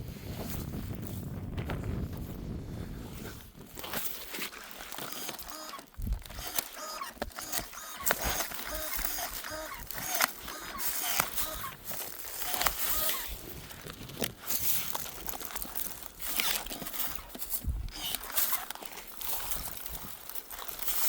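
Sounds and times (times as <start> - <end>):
branches and leaves rustling: 1.0 - 21.0
pruning shears clicking: 3.8 - 21.0.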